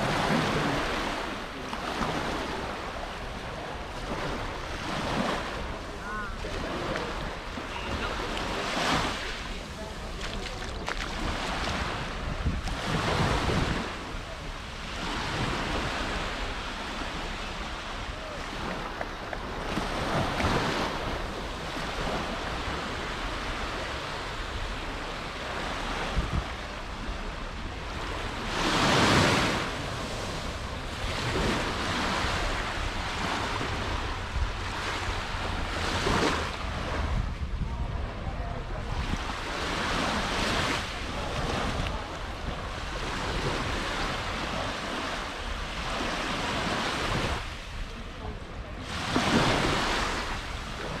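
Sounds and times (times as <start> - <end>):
sea waves breaking on beach: 0.0 - 51.0
wind rumbling on microphone: 0.0 - 51.0.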